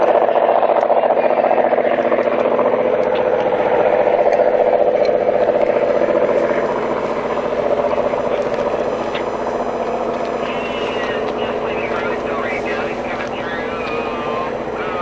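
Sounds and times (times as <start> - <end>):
train passing close: 0.0 - 15.0.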